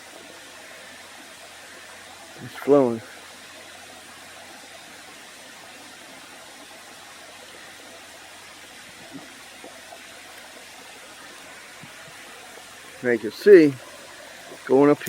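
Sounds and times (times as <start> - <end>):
water pouring from drain pipe: 0.0 - 15.0.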